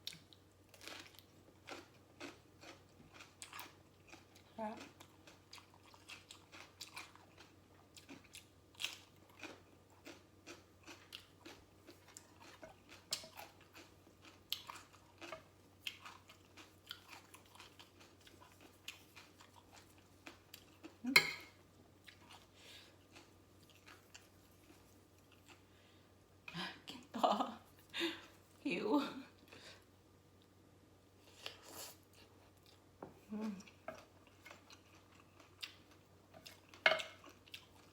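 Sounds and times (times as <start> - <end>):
chewing crunchy salad: 0.0 - 25.8, 31.2 - 37.9.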